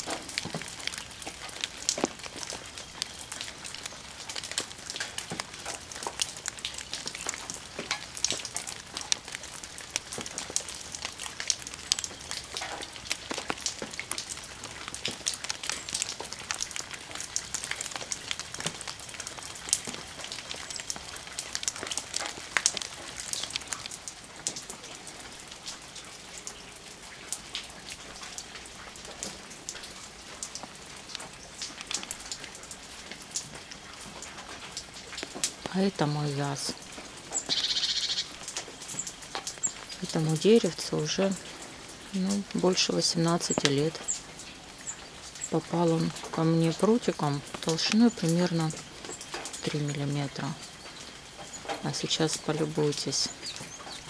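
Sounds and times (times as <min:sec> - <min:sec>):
raindrops dripping into a pond: 0:00.0 - 0:54.0
raindrops on leaves: 0:00.0 - 0:54.0.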